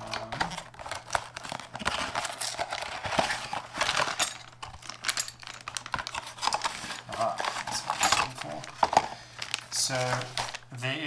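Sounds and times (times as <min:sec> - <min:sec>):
hands rummaging through packaging: 0:00.0 - 0:11.0.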